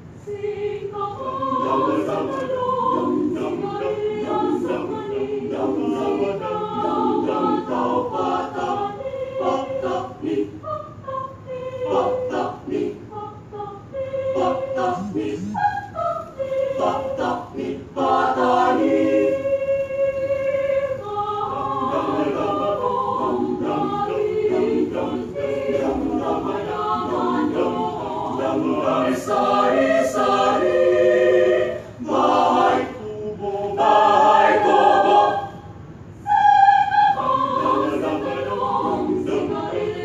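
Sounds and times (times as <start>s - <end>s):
choir singing a cappella: 0.0s - 40.0s.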